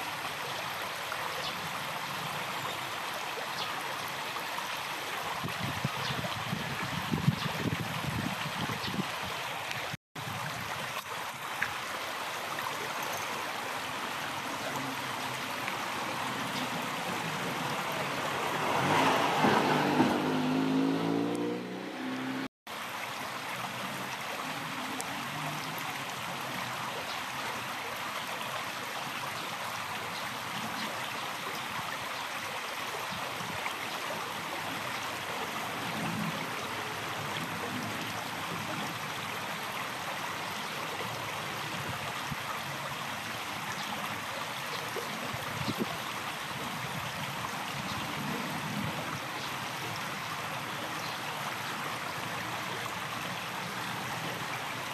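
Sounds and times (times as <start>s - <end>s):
river flowing over stones: 0.0s - 54.9s.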